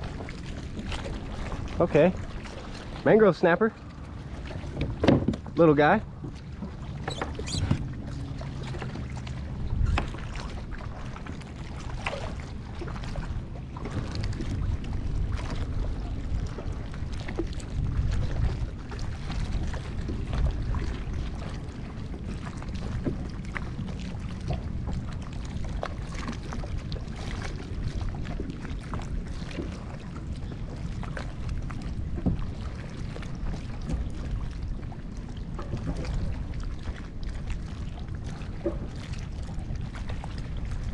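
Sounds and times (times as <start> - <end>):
water lapping against kayak hull: 0.0 - 40.9
wind rumble on microphone: 0.0 - 40.9.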